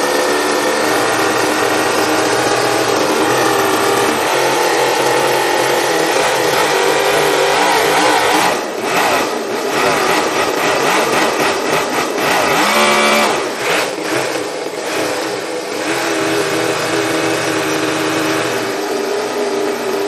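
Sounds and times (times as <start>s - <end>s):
model engine revving: 0.0s - 20.0s.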